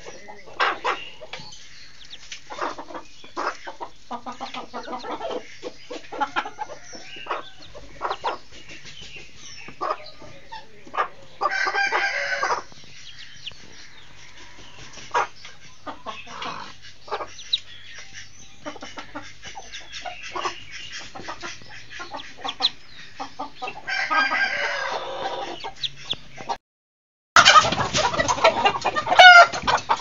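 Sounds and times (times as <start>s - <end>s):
hen clucking: 0.0s - 26.6s, 27.4s - 30.0s.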